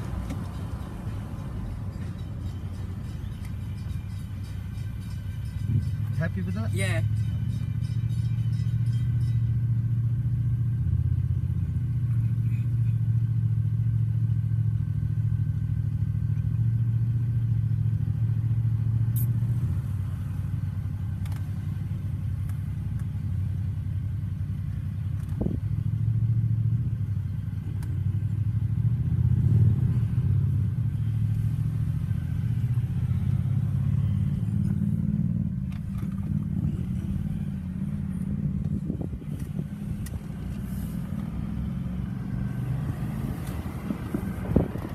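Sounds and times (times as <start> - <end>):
car engine and road drone: 0.0 - 44.9.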